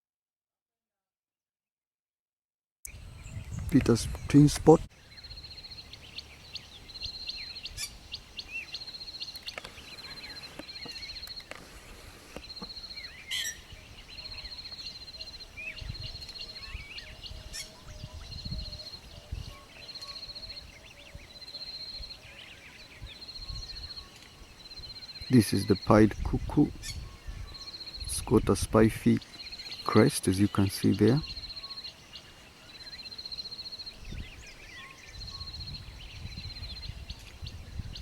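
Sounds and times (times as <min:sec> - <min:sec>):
birds chirping and whistling: 0:02.9 - 0:38.0.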